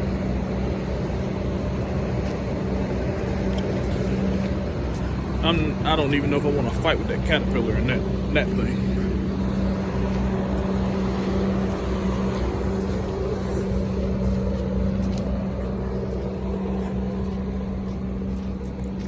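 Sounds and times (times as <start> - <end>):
bus engines idling: 0.0 - 19.0.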